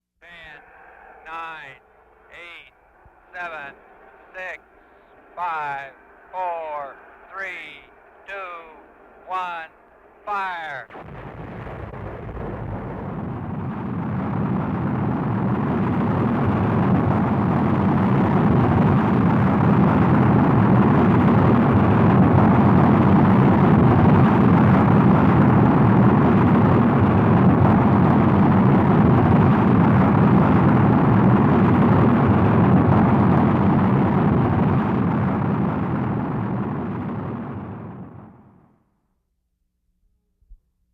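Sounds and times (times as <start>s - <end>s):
rocket engines rumbling: 0.2s - 38.5s.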